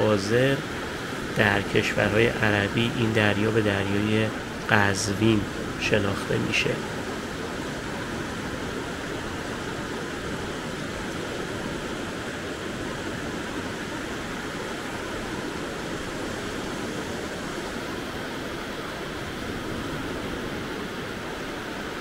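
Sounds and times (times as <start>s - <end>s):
waves washing up shore: 0.0s - 22.0s.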